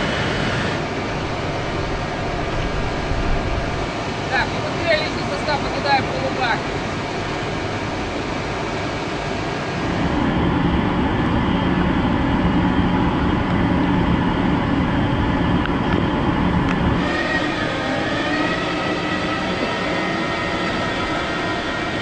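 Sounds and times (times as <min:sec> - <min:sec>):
electric locomotive whine: 0:00.0 - 0:22.0
low machinery rumble and hum: 0:00.0 - 0:22.0.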